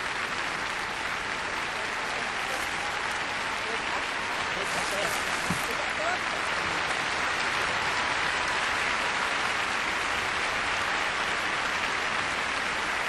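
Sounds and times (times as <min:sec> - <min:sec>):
large crowd applauding: 0:00.0 - 0:13.0.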